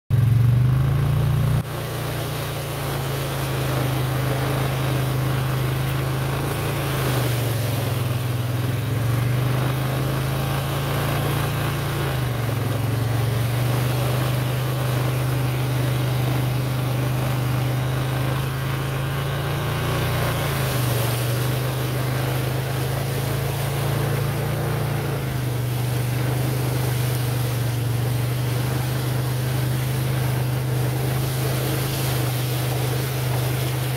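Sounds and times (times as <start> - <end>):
atv engine running: 0.1 - 33.9.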